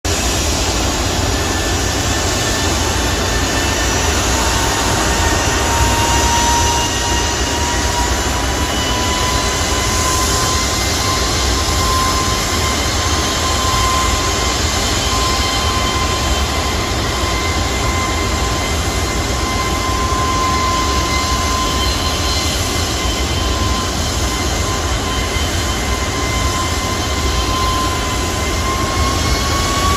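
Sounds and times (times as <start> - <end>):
jet engines taxiing with whine: 0.1 - 29.9.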